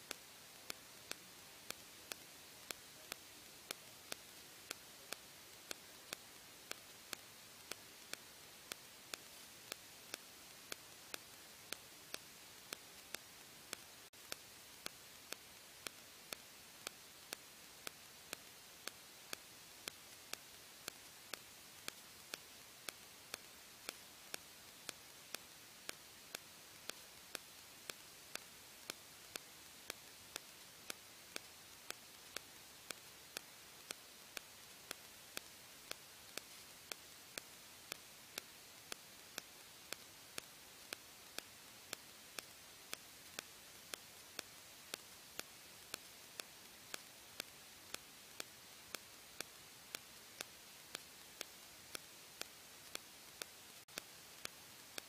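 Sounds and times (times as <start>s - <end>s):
faint steady hiss: 0.0s - 55.0s
sharp regular clicks: 0.0s - 55.0s.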